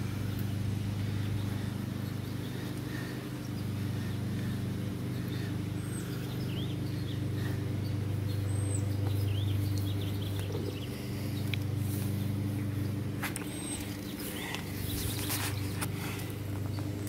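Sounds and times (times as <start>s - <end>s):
low machine hum: 0.0s - 17.0s
small birds chirping: 0.0s - 17.0s.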